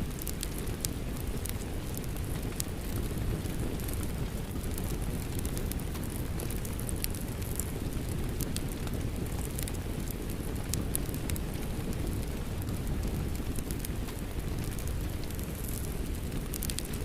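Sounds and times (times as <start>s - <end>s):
steady rain: 0.0s - 17.0s
wood fire crackling and popping: 0.0s - 17.0s.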